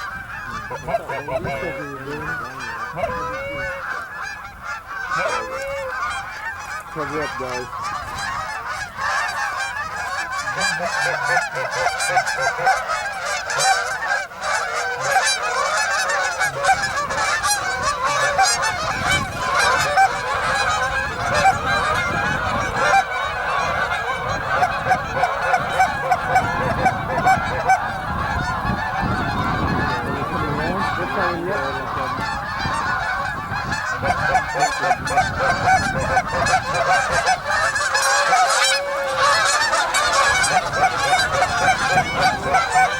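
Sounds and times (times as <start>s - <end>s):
geese honking: 0.0s - 42.9s.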